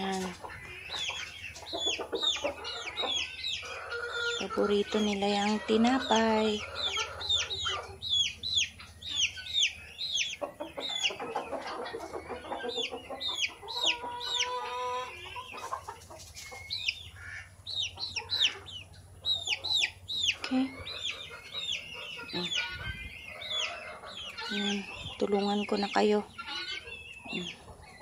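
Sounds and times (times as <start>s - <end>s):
chicks peeping: 0.0s - 28.0s
hen clucking: 0.0s - 28.0s.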